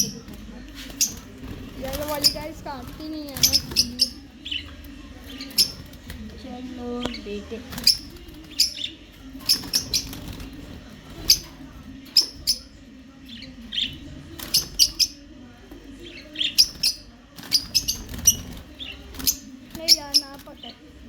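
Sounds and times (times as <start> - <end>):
parakeets chirping: 0.0 - 21.0
wings fluttering: 0.0 - 21.0.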